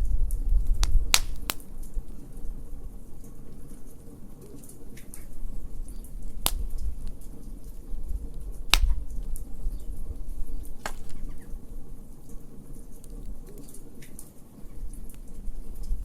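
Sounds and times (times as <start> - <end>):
wood fire crackling: 0.0 - 16.0
sharp pops of fire: 0.2 - 16.0.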